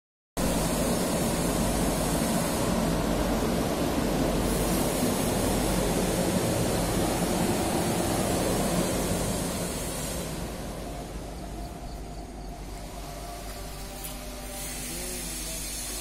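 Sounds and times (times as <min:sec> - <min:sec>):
pump rushing hum: 0:00.4 - 0:16.0.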